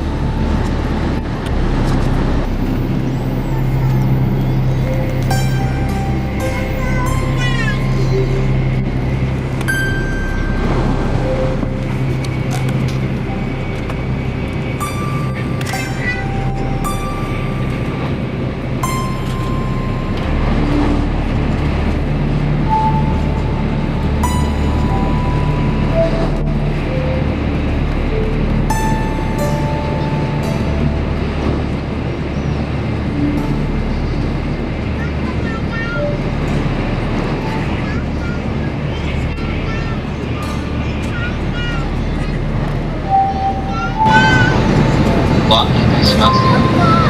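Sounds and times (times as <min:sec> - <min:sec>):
held high tones: 0:00.0 - 0:47.0
train running noise in cabin: 0:00.0 - 0:47.0.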